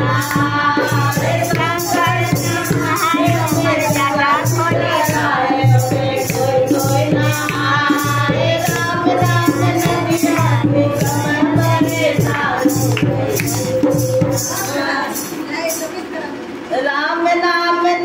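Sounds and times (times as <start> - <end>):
woman singing into a microphone: 0.0 - 15.4
dhol drum beat: 0.0 - 15.9
jingling hand percussion: 0.0 - 16.2.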